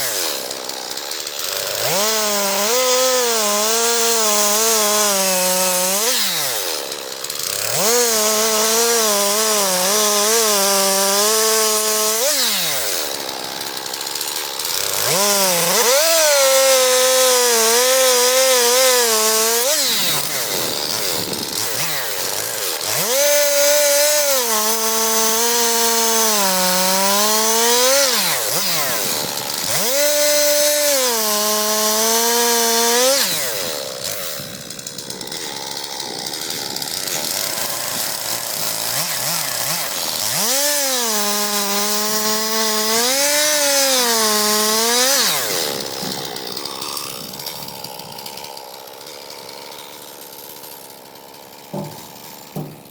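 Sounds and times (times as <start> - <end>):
chainsaw cutting logs: 0.0 - 52.9.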